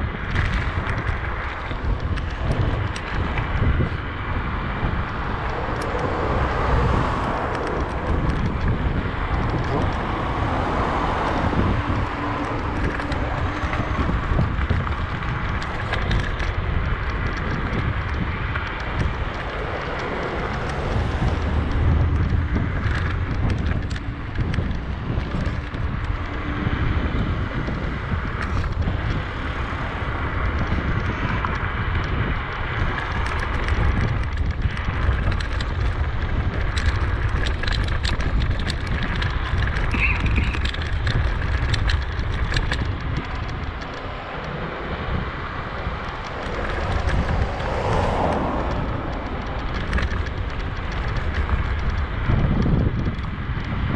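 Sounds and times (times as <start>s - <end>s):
bicycle ticks and rattles: 0.0s - 53.9s
wind buffeting microphone: 0.0s - 53.9s.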